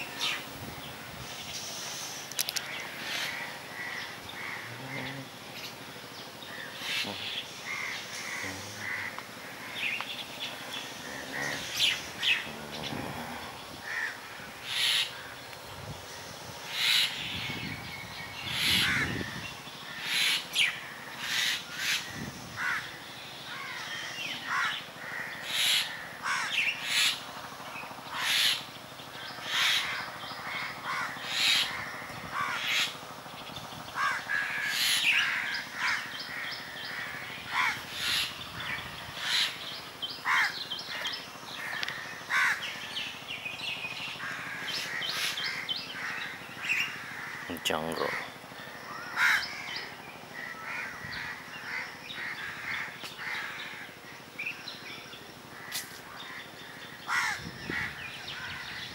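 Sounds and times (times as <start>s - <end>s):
small birds chirping: 0.0s - 58.9s
crows cawing: 2.6s - 5.3s, 6.5s - 15.6s, 16.7s - 17.4s, 18.4s - 27.2s, 28.1s - 28.6s, 29.2s - 33.0s, 34.0s - 43.0s, 44.1s - 54.7s, 55.5s - 58.9s.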